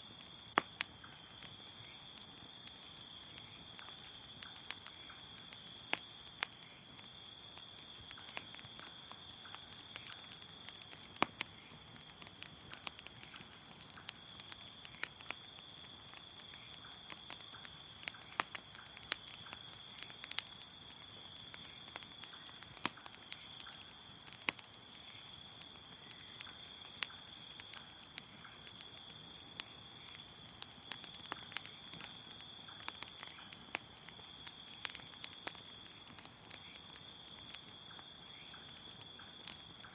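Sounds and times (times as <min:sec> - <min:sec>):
bonfire crackling: 0:00.0 - 0:39.9
crickets chirping: 0:00.0 - 0:39.9.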